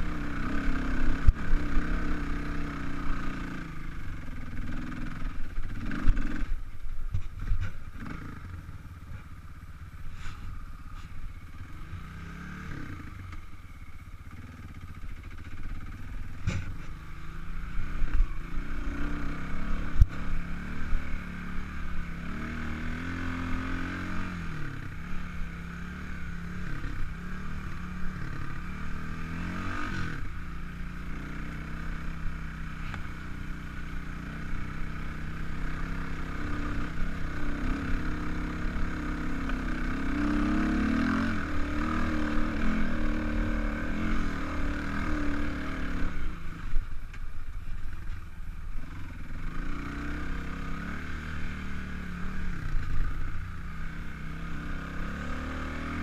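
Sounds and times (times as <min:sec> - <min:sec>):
dirt bike engine revving: 0:00.0 - 0:06.6, 0:07.9 - 0:08.6, 0:11.5 - 0:13.4, 0:14.3 - 0:46.8, 0:48.8 - 0:56.0.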